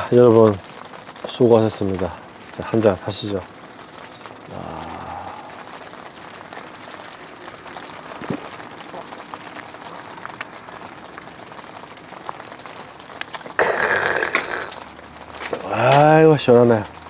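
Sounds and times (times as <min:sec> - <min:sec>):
rain pattering on shelter: 0:00.0 - 0:17.0.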